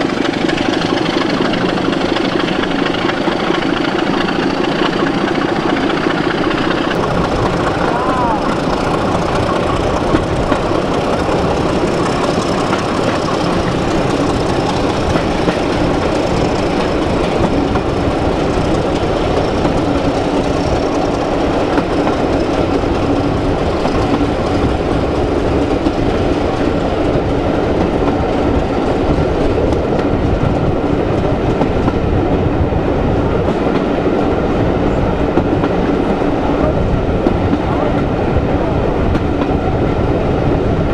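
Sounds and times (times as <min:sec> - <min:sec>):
clickety-clack over rail joints: 0:00.0 - 0:40.9
wheels rumbling on rail: 0:00.0 - 0:40.9.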